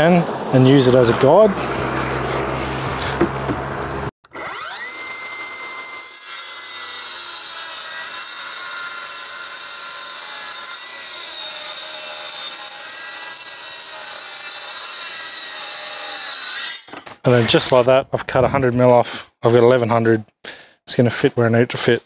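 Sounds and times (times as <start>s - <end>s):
circular saw cutting plywood: 0.0s - 18.6s.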